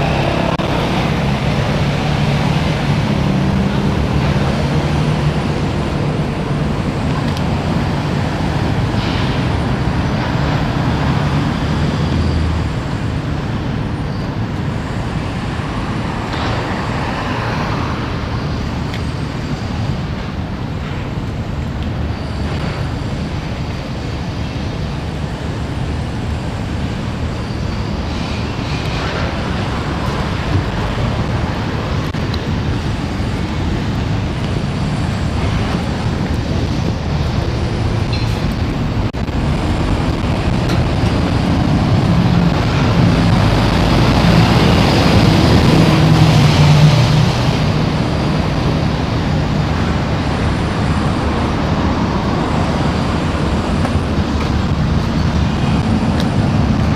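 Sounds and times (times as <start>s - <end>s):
train rumble: 0.0s - 56.9s.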